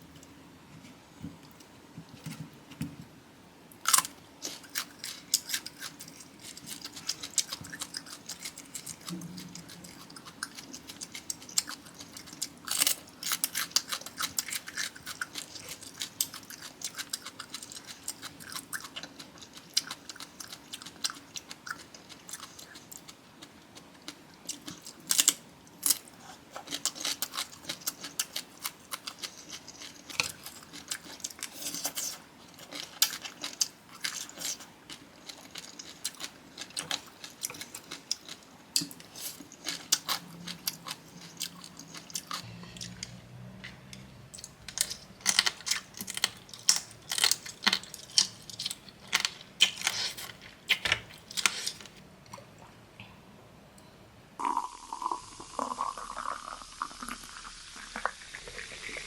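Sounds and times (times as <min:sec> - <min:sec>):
chewing and crunching food: 0:03.8 - 0:43.2, 0:44.4 - 0:52.6.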